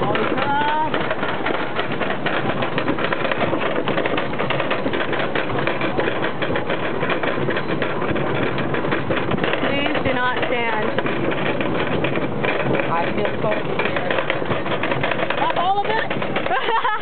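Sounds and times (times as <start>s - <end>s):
roller coaster lift chain clattering: 0.0s - 17.0s.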